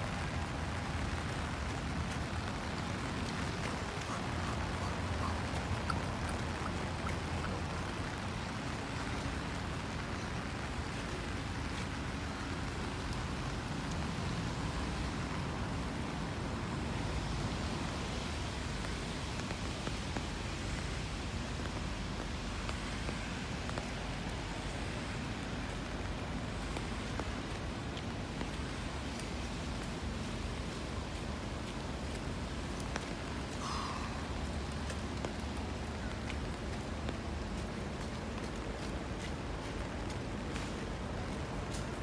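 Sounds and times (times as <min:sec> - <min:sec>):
street ambience hiss: 0:00.0 - 0:42.0.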